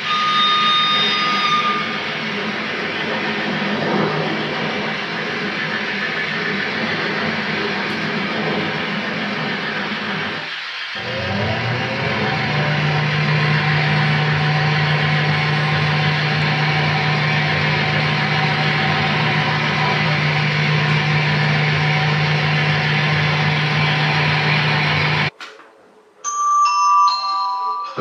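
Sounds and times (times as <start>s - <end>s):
model train diesel engine idling: 0.0s - 25.3s.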